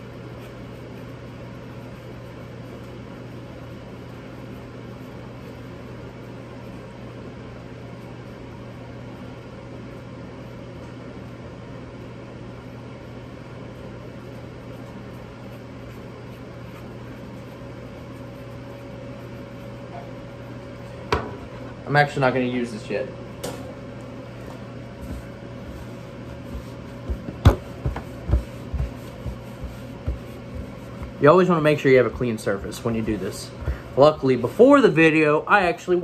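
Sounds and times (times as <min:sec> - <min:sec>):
appliance or fan humming: 0:00.0 - 0:36.0.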